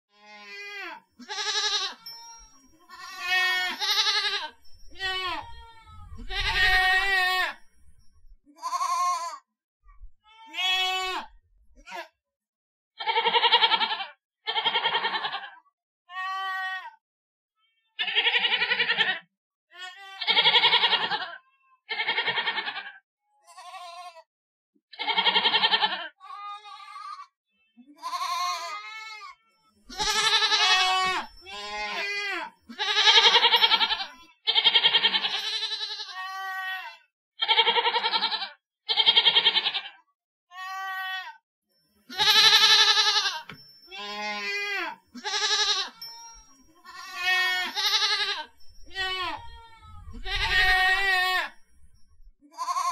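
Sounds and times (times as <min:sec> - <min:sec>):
goat bleating: 0:00.2 - 0:07.6, 0:08.6 - 0:09.4, 0:10.3 - 0:12.1, 0:13.0 - 0:17.0, 0:18.0 - 0:19.2, 0:19.8 - 0:24.2, 0:24.9 - 0:27.3, 0:28.0 - 0:41.4, 0:42.1 - 0:51.6, 0:52.5 - 0:52.9.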